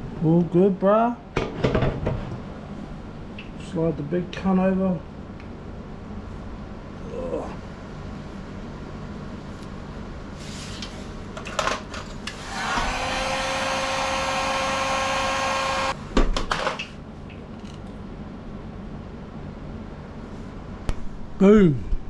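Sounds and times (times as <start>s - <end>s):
hot-air blower fan whine: 0.0s - 22.0s.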